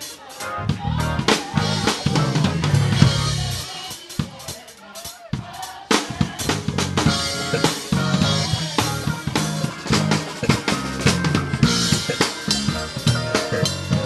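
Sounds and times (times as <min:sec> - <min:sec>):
drum kit played hard: 0:00.0 - 0:14.0
live band music: 0:00.0 - 0:14.0.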